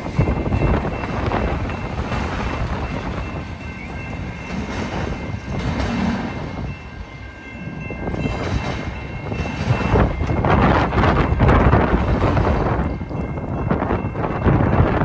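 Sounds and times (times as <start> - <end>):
freight cars rumbling on rails: 0.0 - 15.0
wind buffeting microphone: 0.0 - 15.0.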